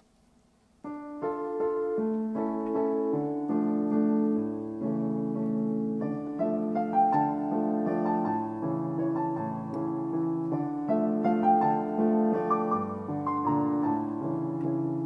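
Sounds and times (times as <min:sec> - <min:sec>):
slow piano melody: 0:00.7 - 0:15.0.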